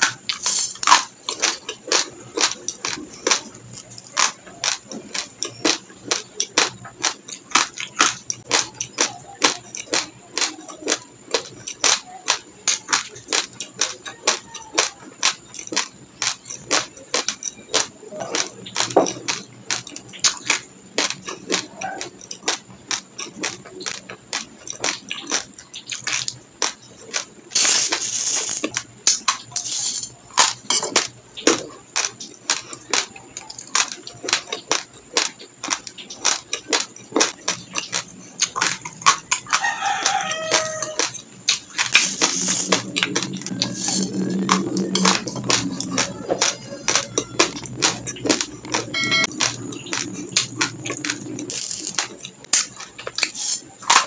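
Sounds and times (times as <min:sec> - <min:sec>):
rice crunching between teeth: 0:00.0 - 0:54.0.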